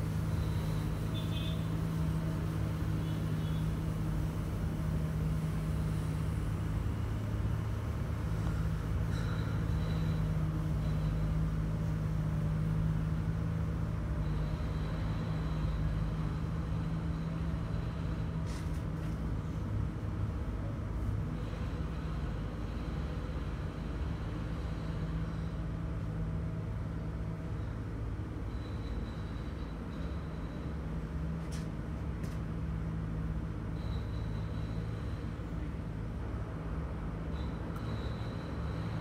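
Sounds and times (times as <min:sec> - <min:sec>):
bus engine low hum: 0:00.0 - 0:39.0.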